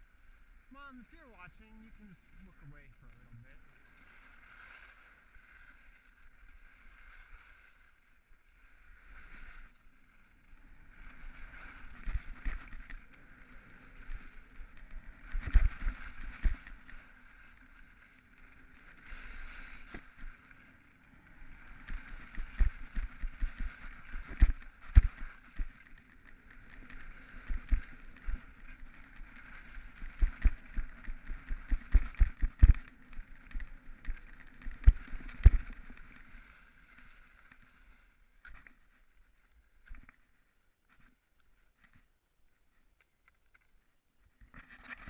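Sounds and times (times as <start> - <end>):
skis scraping across snow: 0.0 - 42.1.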